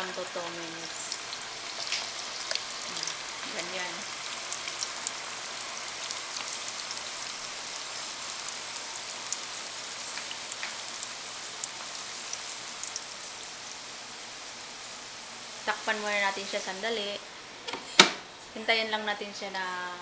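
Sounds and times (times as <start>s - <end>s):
fries sizzling in hot oil: 0.0s - 17.4s.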